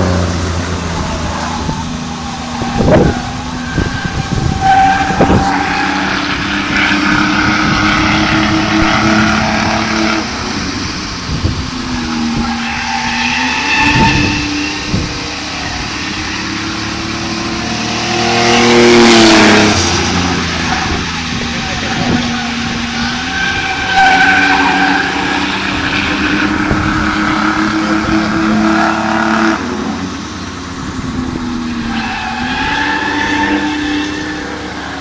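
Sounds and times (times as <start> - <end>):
race car engine: 0.0 - 35.0.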